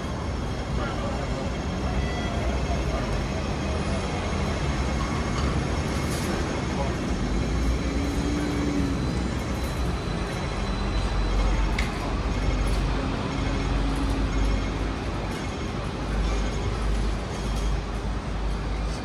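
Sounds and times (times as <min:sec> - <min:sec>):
tram rumbling and rattling: 0:00.0 - 0:19.0.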